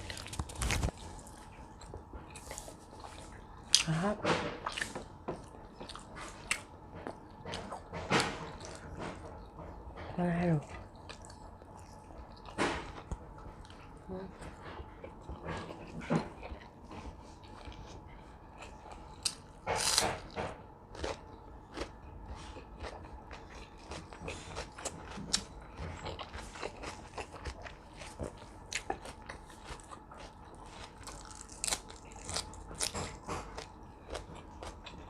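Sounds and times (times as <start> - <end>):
chewing and crunching: 0.0 - 35.0.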